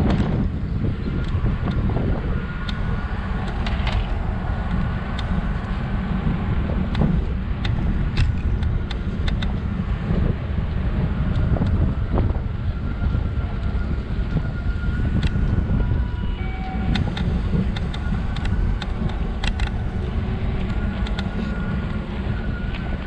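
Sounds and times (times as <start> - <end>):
faint steady whine: 0.0 - 23.0
wind buffeting microphone: 0.0 - 23.0.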